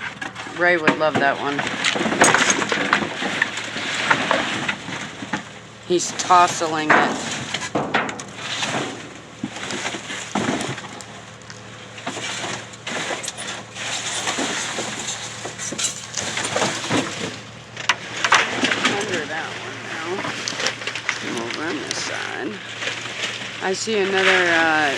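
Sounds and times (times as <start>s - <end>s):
trash bags rustling and crinkling: 1.2s - 24.9s.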